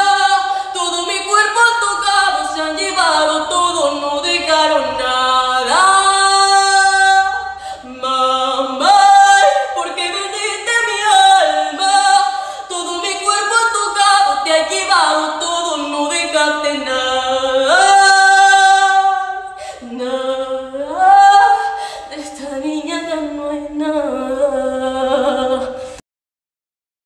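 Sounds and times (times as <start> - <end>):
girl singing a ballad: 0.0 - 26.0.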